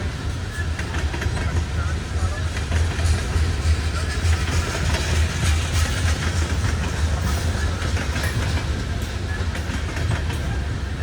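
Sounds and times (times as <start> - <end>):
train rumble: 0.0 - 11.0
train wheels clicking over rails: 0.0 - 11.0.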